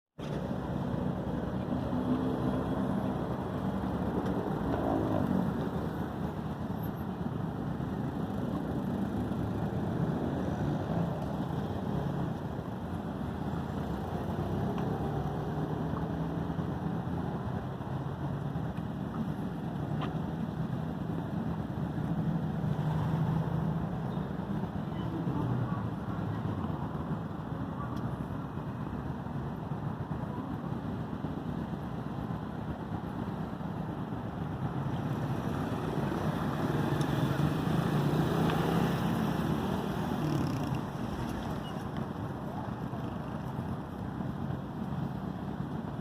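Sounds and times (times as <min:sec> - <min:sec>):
vehicle low rumble: 0:00.2 - 0:46.0.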